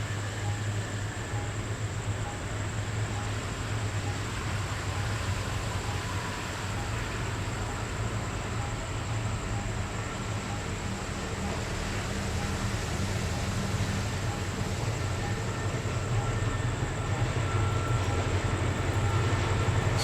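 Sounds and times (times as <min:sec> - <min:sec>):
train hum and rumble: 0:00.0 - 0:20.0.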